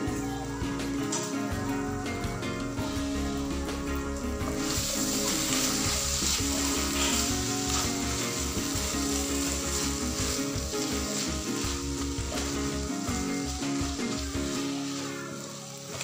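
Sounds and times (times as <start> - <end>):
music with pulsing bass: 0.0 - 14.8
meat sizzling in a pan: 0.0 - 16.0.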